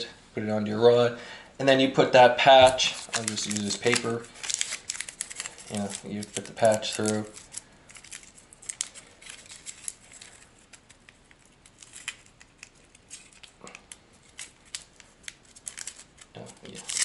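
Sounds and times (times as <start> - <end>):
paper rustling: 2.6 - 17.0.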